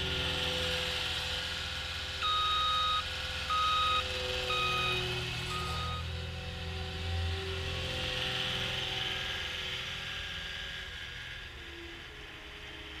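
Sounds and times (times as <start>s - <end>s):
diesel engine of passing loader: 0.0s - 13.0s.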